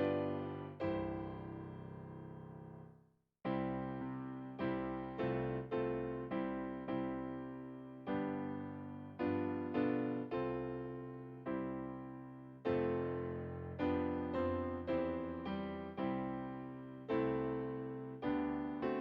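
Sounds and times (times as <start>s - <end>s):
slow solo piano chords: 0.0s - 2.8s, 3.5s - 19.0s.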